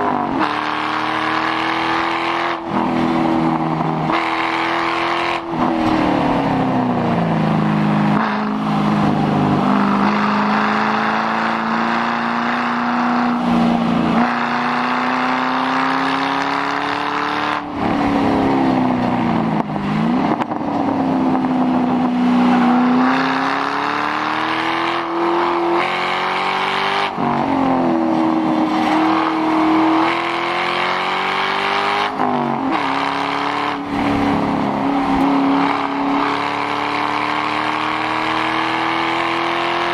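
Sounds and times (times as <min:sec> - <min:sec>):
loud car exhaust revving: 0:00.0 - 0:39.9.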